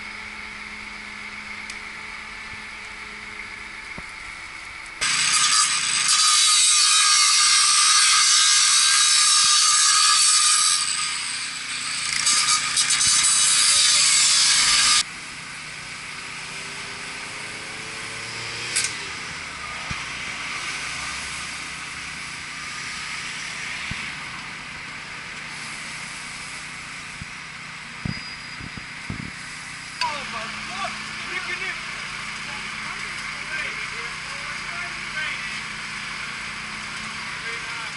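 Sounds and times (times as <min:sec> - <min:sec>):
angle grinder cutting steel: 0:00.0 - 0:15.1, 0:16.1 - 0:37.9
outdoor background noise: 0:00.0 - 0:37.9.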